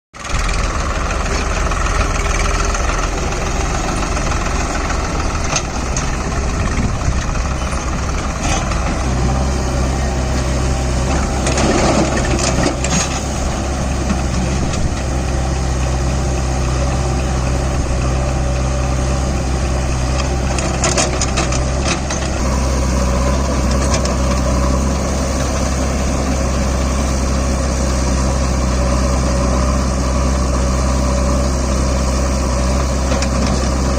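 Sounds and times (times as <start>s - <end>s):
backhoe loader engine: 0.1s - 33.9s
tractor diesel engine: 0.1s - 33.9s.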